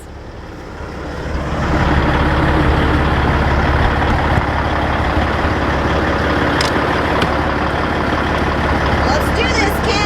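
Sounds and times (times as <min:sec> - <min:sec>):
truck diesel engine rumbling: 0:00.0 - 0:10.0.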